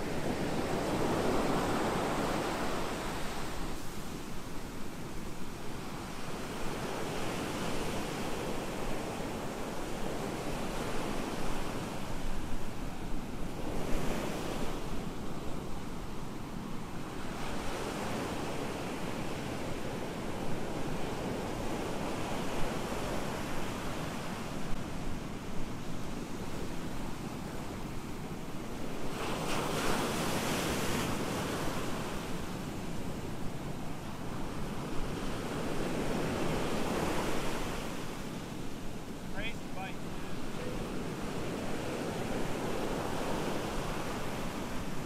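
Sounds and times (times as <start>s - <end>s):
ocean surf breaking on a beach: 0.0s - 45.0s.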